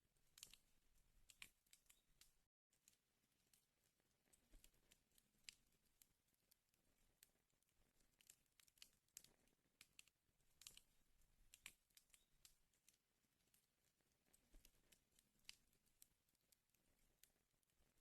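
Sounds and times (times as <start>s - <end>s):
wood fire crackling: 0.1s - 18.0s
burning logs snapping and popping: 0.2s - 18.0s.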